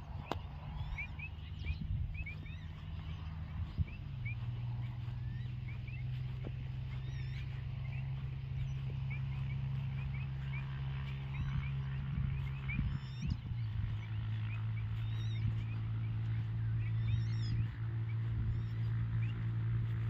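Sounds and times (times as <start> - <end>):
low rumbles: 0.0 - 20.0
steady low hum: 0.0 - 20.0
animal chirps: 0.2 - 20.0.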